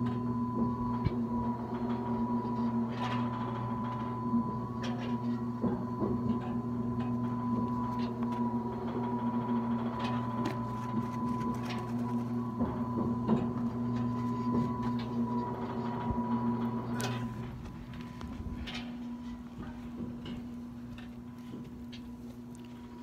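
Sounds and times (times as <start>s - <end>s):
pumping equipment humming: 0.0s - 23.0s.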